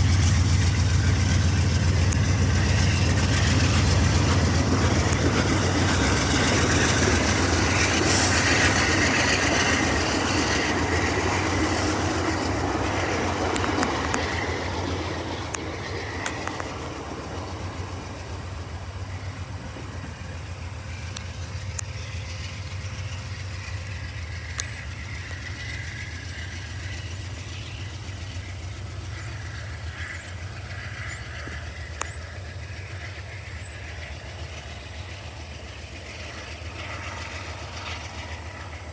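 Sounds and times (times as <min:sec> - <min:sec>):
passenger train rolling by: 0:00.0 - 0:38.9
wheels clicking on track: 0:00.0 - 0:38.9.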